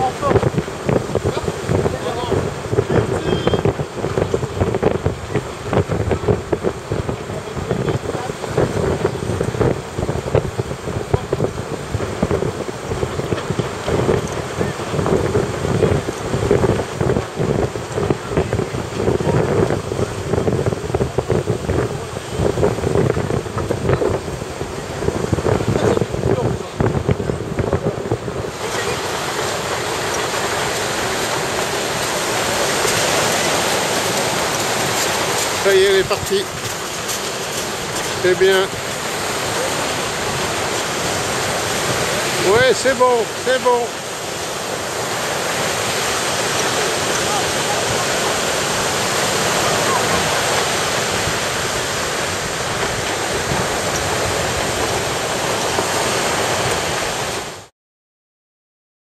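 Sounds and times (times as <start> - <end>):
surf breaking on beach: 0.0 - 57.7.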